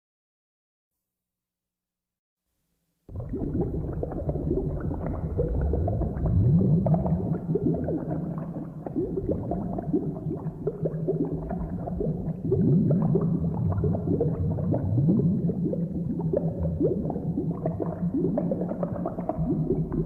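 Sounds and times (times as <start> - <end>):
thick liquid boiling and bubbling: 3.1 - 20.0.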